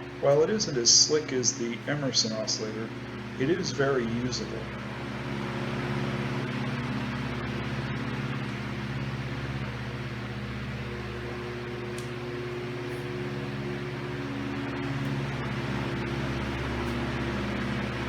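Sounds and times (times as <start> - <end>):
fan whirring air: 0.0 - 18.0
low motor hum: 0.0 - 18.0.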